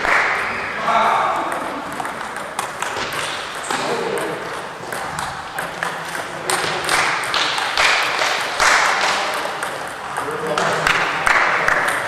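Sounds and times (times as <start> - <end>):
table tennis ball clicking: 1.3 - 12.0.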